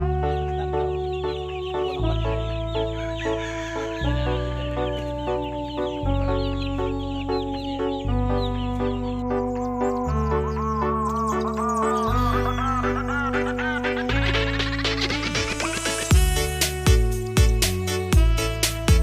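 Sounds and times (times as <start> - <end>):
background music: 0.0 - 19.0
chickens clucking: 0.1 - 18.0.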